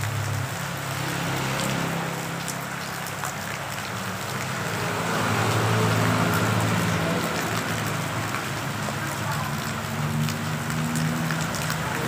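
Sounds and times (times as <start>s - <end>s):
motorcycle passing on wet road: 0.0s - 12.0s
raindrops ticking on surfaces: 0.0s - 12.0s
steady rain falling: 0.0s - 12.0s.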